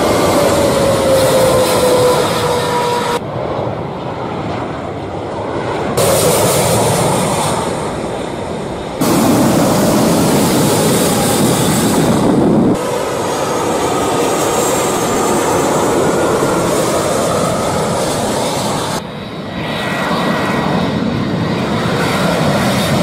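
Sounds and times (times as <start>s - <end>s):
jet airliner engine roar: 0.0s - 23.0s
jet engine whine falling in pitch: 0.0s - 23.0s.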